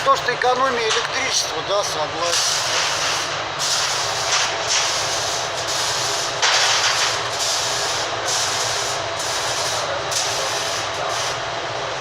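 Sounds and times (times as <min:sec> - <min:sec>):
ventilation fan running: 0:00.0 - 0:12.0.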